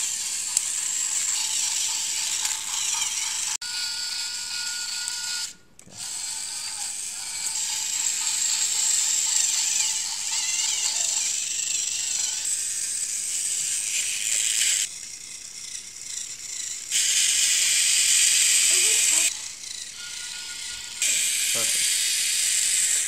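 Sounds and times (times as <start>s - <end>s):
toy train motor whirring: 0.0s - 23.0s.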